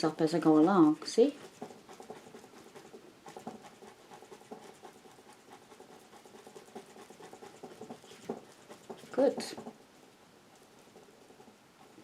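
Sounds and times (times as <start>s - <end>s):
paintbrush scratching on canvas: 0.0s - 12.0s.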